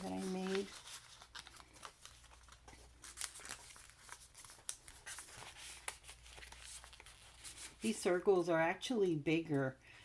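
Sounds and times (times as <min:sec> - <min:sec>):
paper rustling and crinkling: 0:00.0 - 0:08.4.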